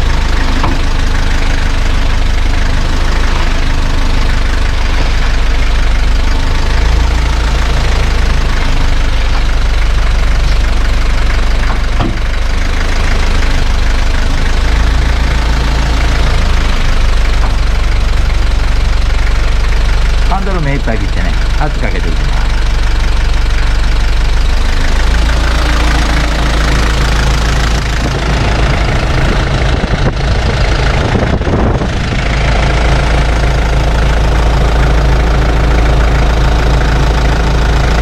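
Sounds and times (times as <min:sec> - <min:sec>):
diesel truck engine idling: 0:00.0 - 0:38.0
strange power steering noise: 0:00.0 - 0:38.0.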